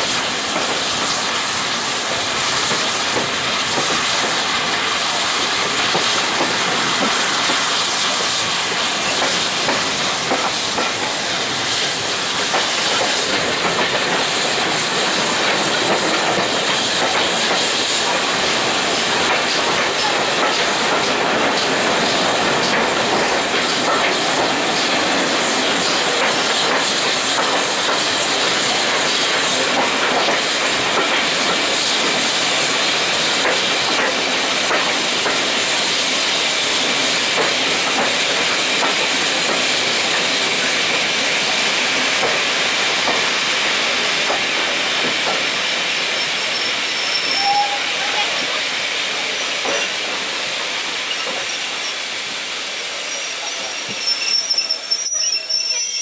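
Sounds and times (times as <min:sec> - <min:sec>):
steam train hiss and rumble: 0:00.0 - 0:56.0.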